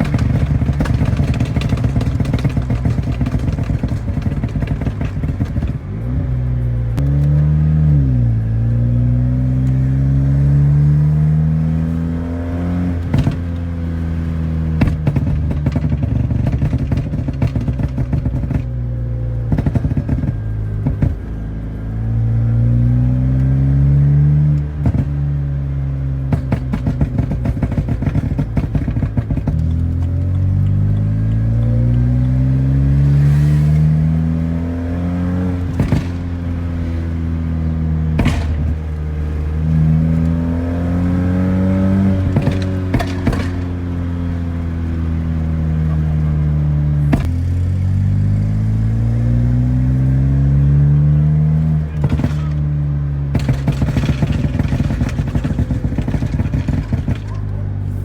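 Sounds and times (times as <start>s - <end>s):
exhaust pops and crackles: 0.0s - 7.5s, 8.6s - 58.0s
car engine revving: 0.0s - 58.0s.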